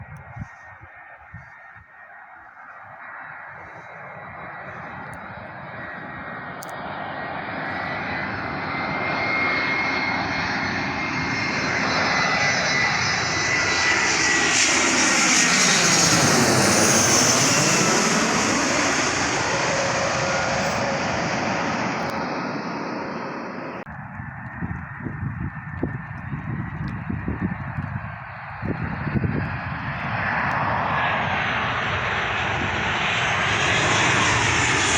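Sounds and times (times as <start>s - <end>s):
airplane engine passing overhead: 0.0s - 34.9s.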